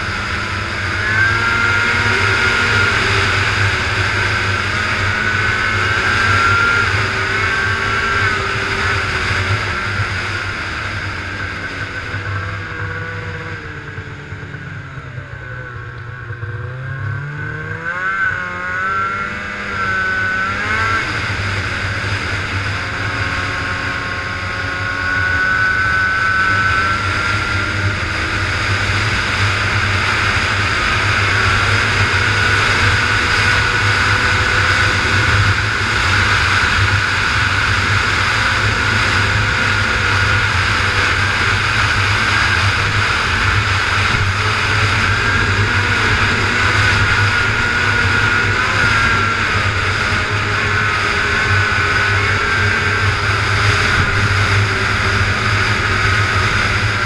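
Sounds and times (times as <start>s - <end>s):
snowmobile engine: 0.0s - 57.0s
track noise: 0.0s - 57.0s.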